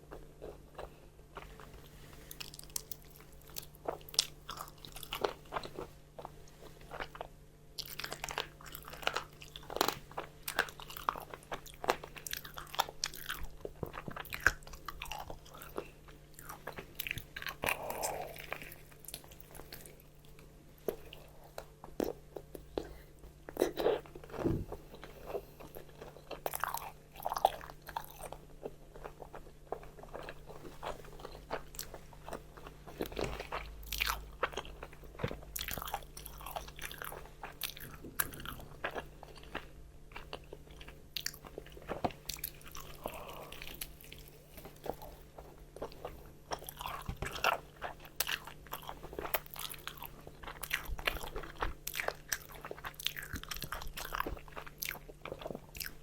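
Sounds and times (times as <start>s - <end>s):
crunching fried chicken: 0.0s - 56.0s
person chewing: 0.0s - 56.0s.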